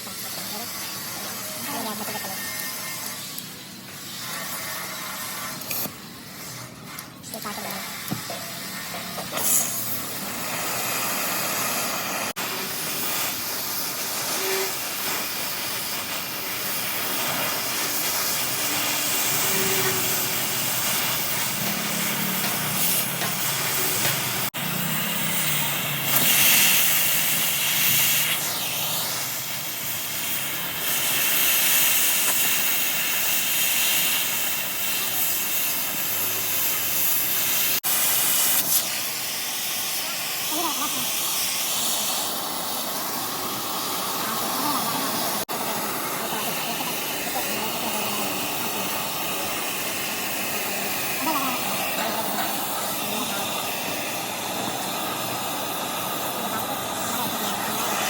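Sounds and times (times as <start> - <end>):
loud hissing noise: 0.0 - 58.0.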